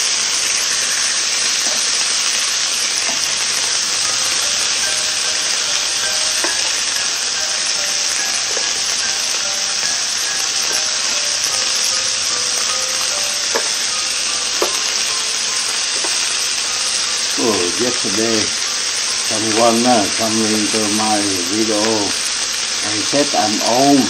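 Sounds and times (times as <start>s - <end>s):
meat sizzling on grill: 0.0s - 24.0s.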